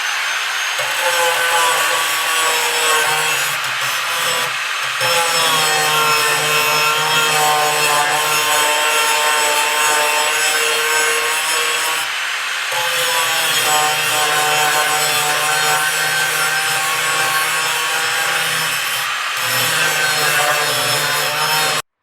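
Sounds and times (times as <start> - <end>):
angle grinder grinding steel: 0.0 - 21.9.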